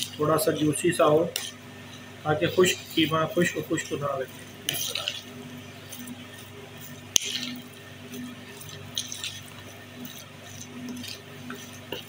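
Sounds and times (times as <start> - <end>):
wet squishing of stirred filling: 0.0 - 12.0.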